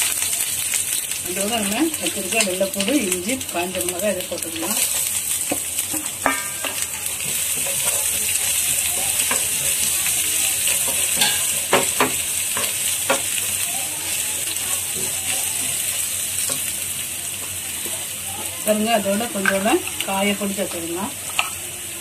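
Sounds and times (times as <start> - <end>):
spices sizzling in hot oil: 0.0 - 22.0.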